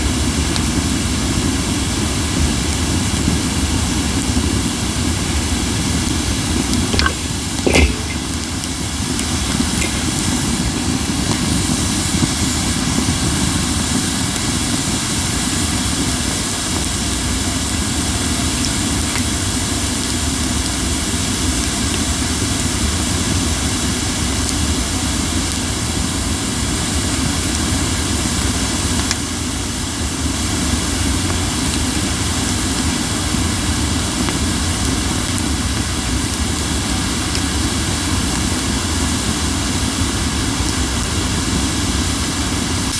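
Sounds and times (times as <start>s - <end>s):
burning firewood hissing: 0.0s - 42.9s.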